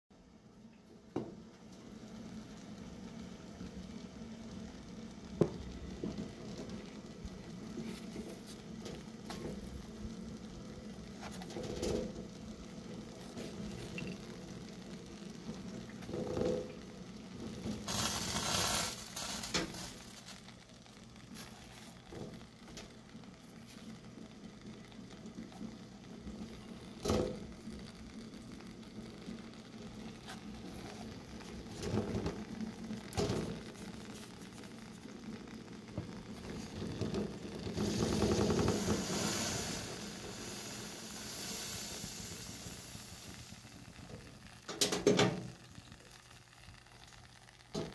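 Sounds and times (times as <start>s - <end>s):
sweet potatoes sizzling: 0.2s - 47.9s.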